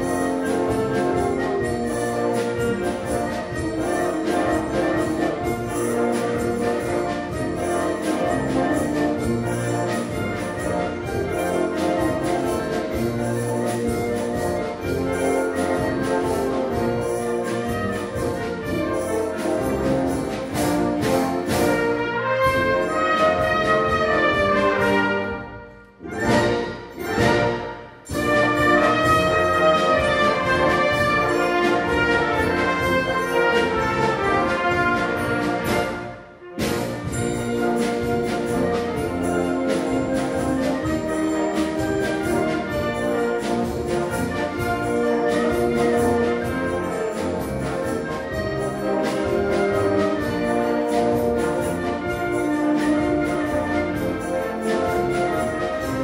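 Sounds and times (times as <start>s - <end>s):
brass melody: 0.0s - 56.0s
wind band playing: 0.0s - 56.0s.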